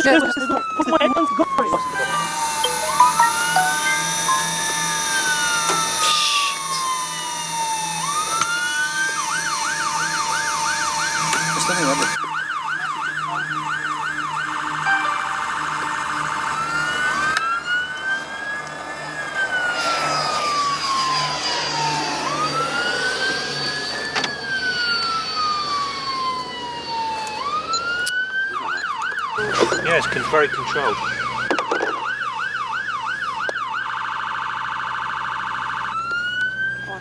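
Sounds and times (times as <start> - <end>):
emergency vehicle siren: 0.0 - 37.0.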